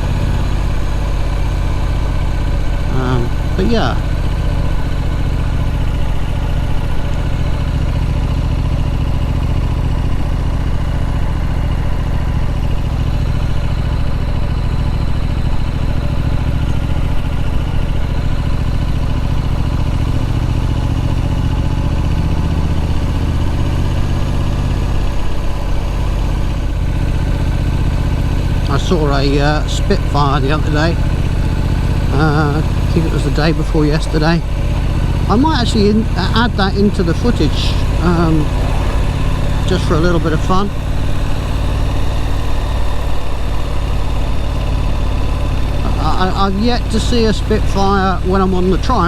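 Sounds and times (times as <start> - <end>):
motorcycle engine running: 0.0 - 49.0
road and wind noise: 0.0 - 49.0.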